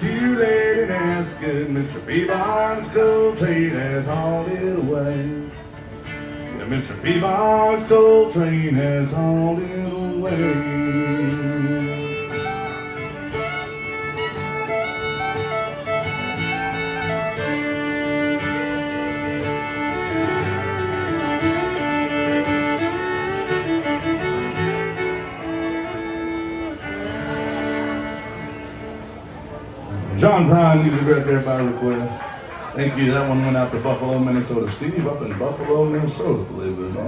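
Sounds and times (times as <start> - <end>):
fiddle playing a melody: 0.0 - 37.0
guitar: 0.0 - 37.0.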